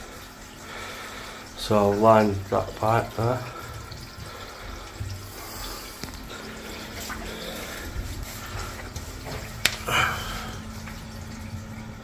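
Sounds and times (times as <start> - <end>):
water trickling through pipe: 0.0 - 12.0.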